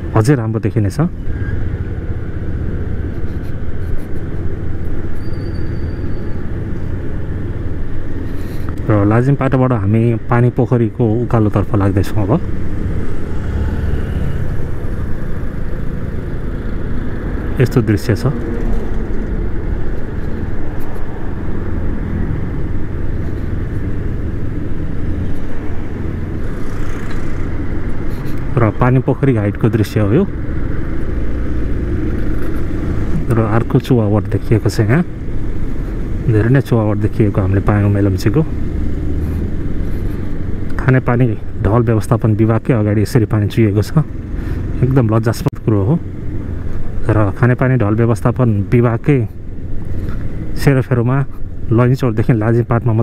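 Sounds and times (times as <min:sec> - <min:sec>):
surrounding traffic: 0:00.0 - 0:53.0
vehicle engine and road noise: 0:00.0 - 0:53.0.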